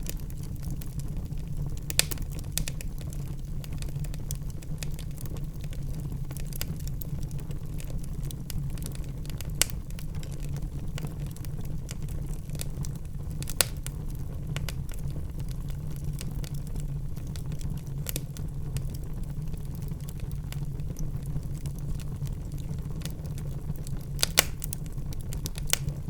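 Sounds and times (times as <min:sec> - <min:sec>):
fire crackles and pops: 0:00.0 - 0:26.0
wood fire burning: 0:00.0 - 0:26.0.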